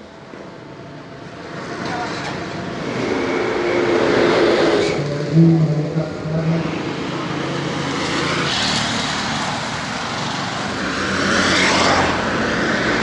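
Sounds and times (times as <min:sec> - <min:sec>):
vehicles passing: 0:00.0 - 0:13.0.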